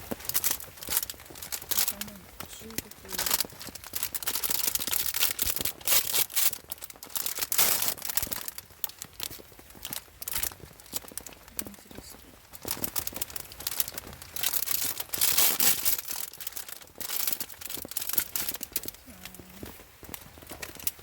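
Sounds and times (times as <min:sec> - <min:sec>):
plastic packaging crinkling and tearing: 0:00.0 - 0:21.0.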